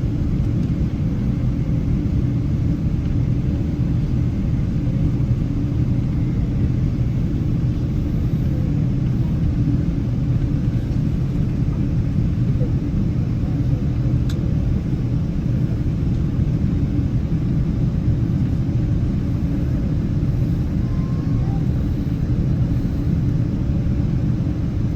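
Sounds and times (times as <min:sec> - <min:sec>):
jet engine rumble inside cabin: 0:00.0 - 0:24.9.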